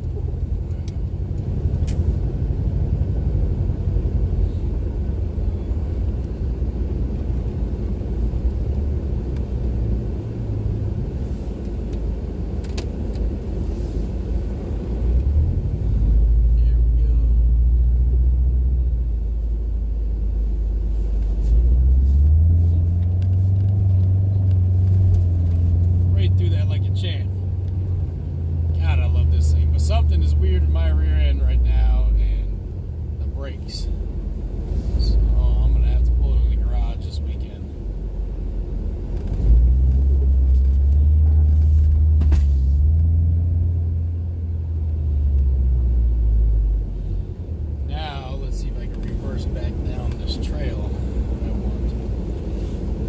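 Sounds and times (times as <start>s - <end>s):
car engine under load: 0.0s - 53.0s.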